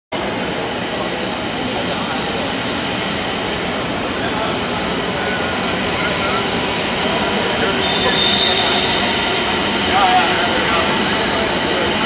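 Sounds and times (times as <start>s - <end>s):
high-pitched squeal: 0.2s - 12.0s
train rumble: 0.2s - 12.0s.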